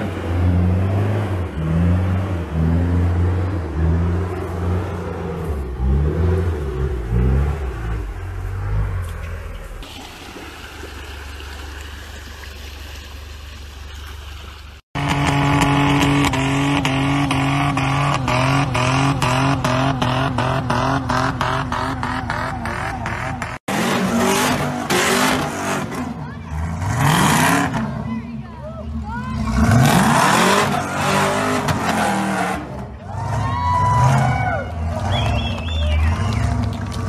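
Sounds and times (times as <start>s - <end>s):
truck engine working through mud: 0.0s - 37.0s.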